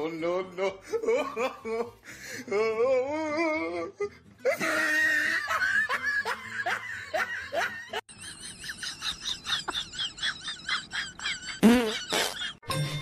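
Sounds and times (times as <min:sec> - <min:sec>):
person laughing: 0:00.6 - 0:02.0, 0:03.4 - 0:12.6.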